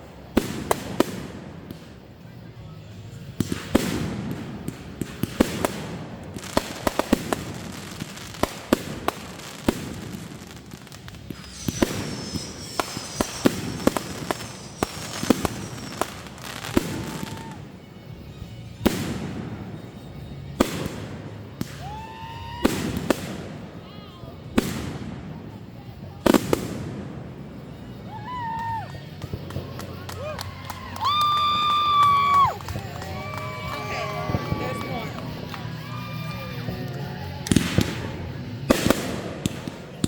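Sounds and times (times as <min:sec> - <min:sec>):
fireworks bangs and crackles: 0:00.0 - 0:40.0
fireworks whistling: 0:00.0 - 0:40.0.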